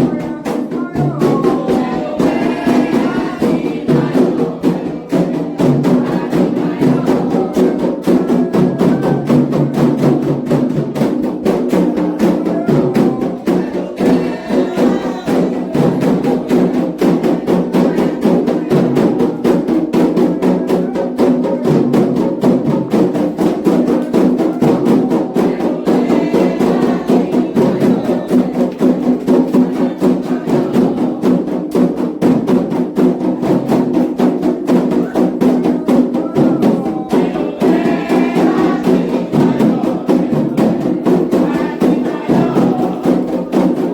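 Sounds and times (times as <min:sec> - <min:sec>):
hand drums: 0:00.0 - 0:43.9
people singing: 0:00.0 - 0:43.9.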